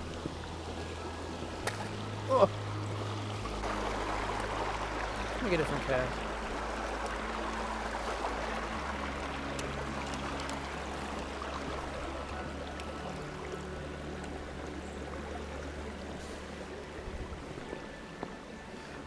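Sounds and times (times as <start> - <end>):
creek water flowing over rocks: 0.0 - 19.0.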